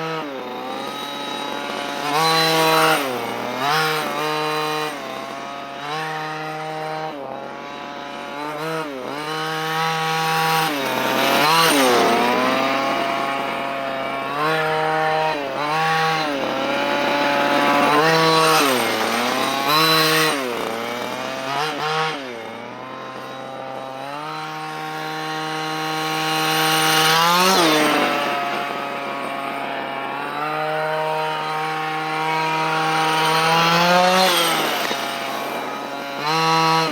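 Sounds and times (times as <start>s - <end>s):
two-stroke engine idling and revving: 0.0s - 36.9s.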